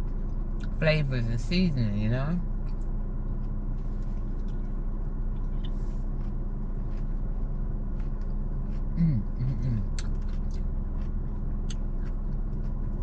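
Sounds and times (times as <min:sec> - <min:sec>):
car engine idling hum: 0:00.0 - 0:13.0.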